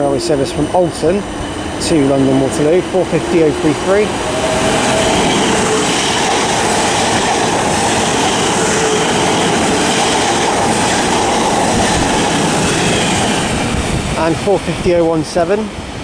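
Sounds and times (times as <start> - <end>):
faint train whine: 0.0 - 16.0
train wheels rushing on rail: 0.0 - 16.0.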